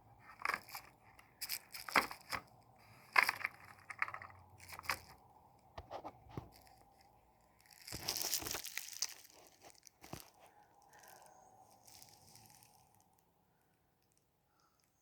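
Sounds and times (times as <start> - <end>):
handling rustles: 0.0 - 13.0.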